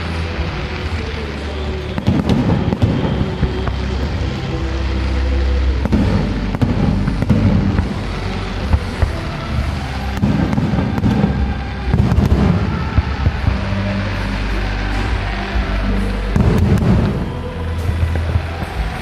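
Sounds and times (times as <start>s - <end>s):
fireworks bangs and crackling: 0.0s - 19.0s
low rumble: 0.0s - 19.0s.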